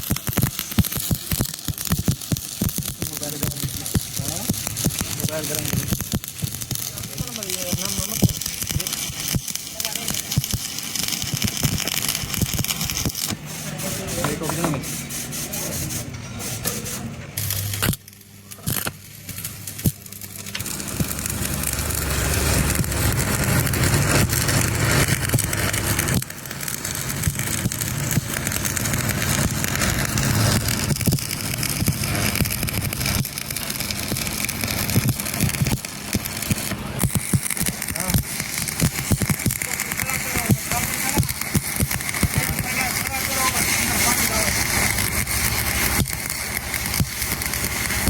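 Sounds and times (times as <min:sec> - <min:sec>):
welding arc crackling: 0:00.0 - 0:48.0.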